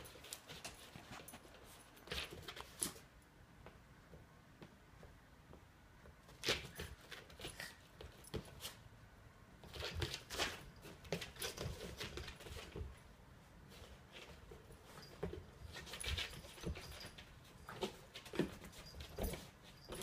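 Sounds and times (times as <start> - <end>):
cat and dog scuffling: 0.0 - 5.1, 6.0 - 8.9, 9.6 - 20.0.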